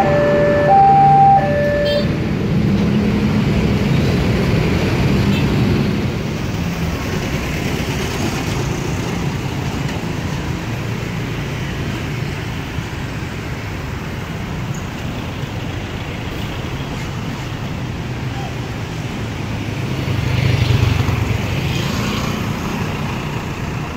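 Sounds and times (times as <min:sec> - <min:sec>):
road traffic rumble: 0:00.0 - 0:23.9.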